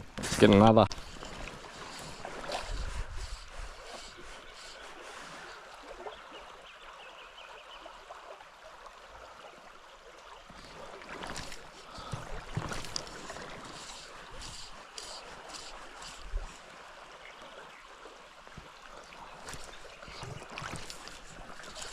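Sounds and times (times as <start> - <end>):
shallow river rushing: 0.0 - 6.8, 7.9 - 21.9
water splashes: 0.0 - 21.9.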